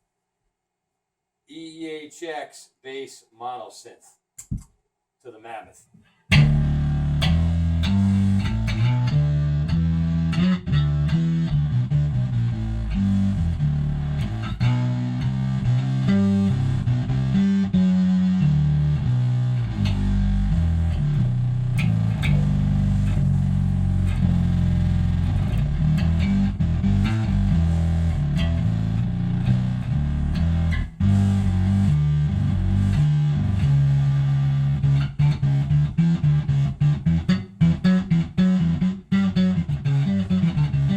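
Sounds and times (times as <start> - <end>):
fuzzy synth bass: 6.3 - 40.9.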